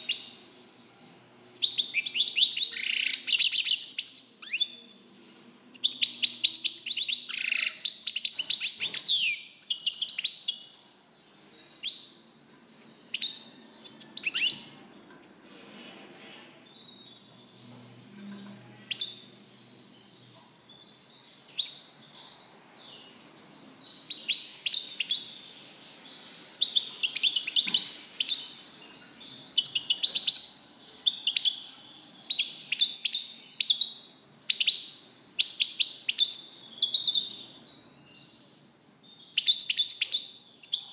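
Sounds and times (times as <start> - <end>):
finch twittering song: 0.0 - 40.9.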